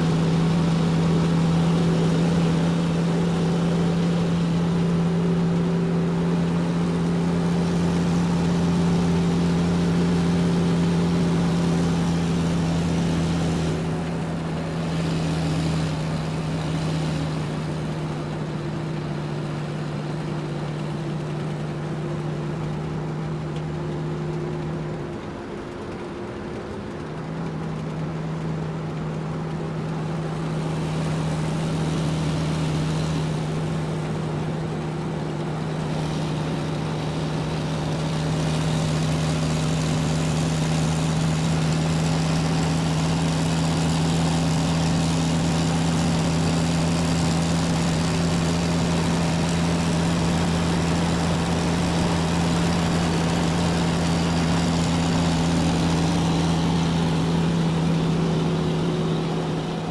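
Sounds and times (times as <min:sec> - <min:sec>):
steady motor hum: 0:00.0 - 0:59.9.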